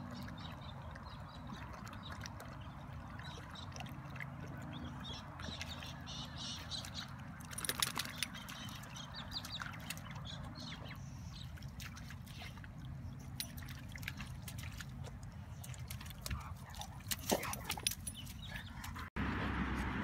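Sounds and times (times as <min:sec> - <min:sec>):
dog splashing in puddle: 0:00.0 - 0:20.0.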